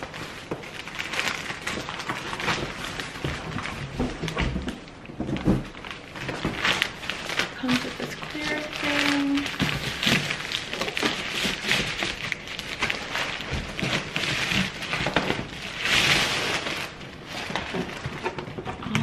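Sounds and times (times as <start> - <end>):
thin wrapping bag rustling: 0.0 - 19.0.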